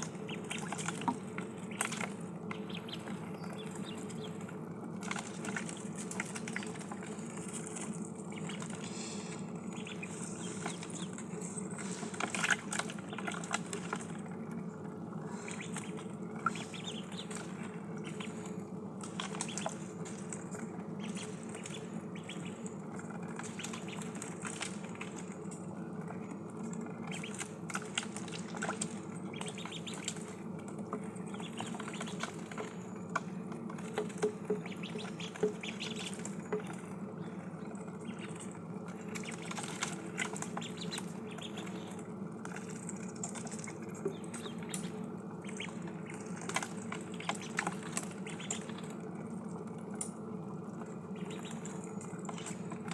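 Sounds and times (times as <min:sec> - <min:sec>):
ducklings pecking and dabbling: 0:00.0 - 0:52.9
steady low hum: 0:00.0 - 0:52.9.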